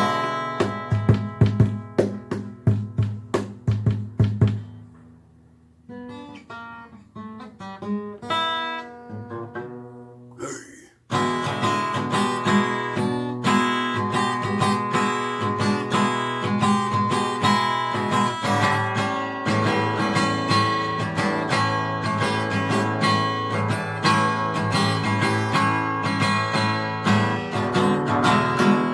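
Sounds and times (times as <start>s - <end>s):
blues guitar playing: 0.0s - 3.6s, 5.9s - 10.3s, 11.1s - 28.9s.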